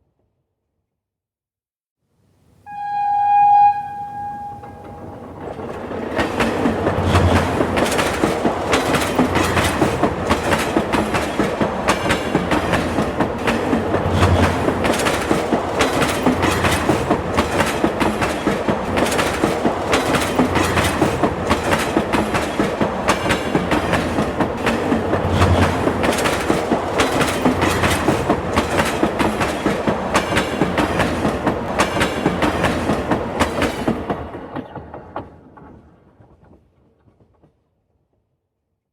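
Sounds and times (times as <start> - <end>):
train rumble: 3.3 - 37.6
train wheels clacking on rails: 4.2 - 37.6.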